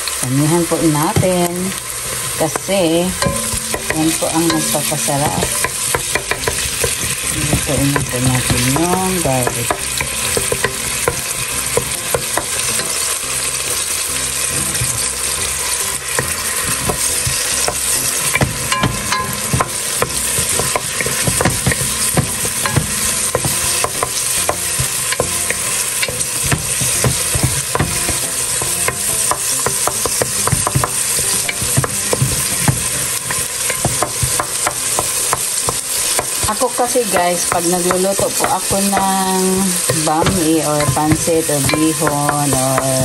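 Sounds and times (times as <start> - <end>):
onion and garlic sizzling in oil: 0.0 - 43.0
wooden spoon scraping and tapping pan: 0.8 - 43.0.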